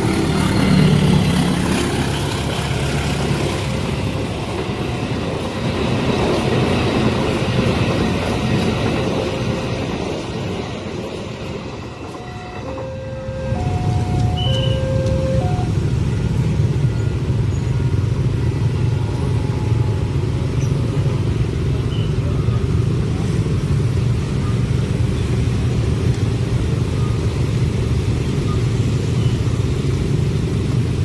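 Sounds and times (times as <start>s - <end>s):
passing vehicles rumbling: 0.0s - 31.0s.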